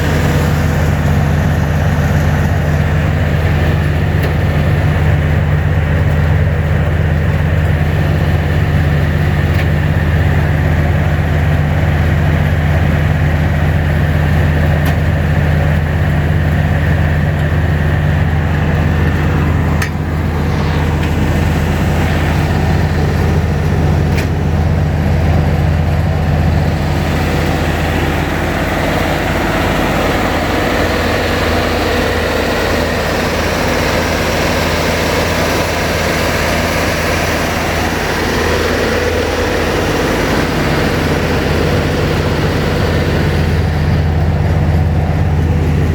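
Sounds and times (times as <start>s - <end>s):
wood chipper diesel engine running: 0.0s - 45.9s.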